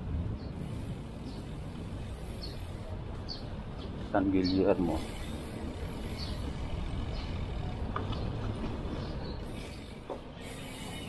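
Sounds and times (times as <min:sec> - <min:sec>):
wind and tyre rumble: 0:00.0 - 0:11.0.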